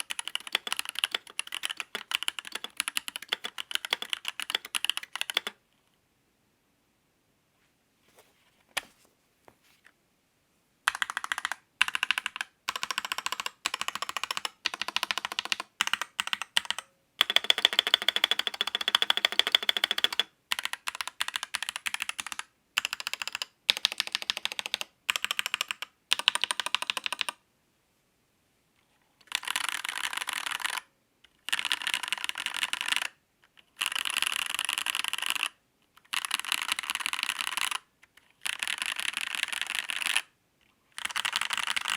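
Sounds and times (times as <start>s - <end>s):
mechanical keyboard typing: 0.0s - 5.6s, 10.9s - 27.4s, 29.2s - 40.3s, 40.9s - 41.9s.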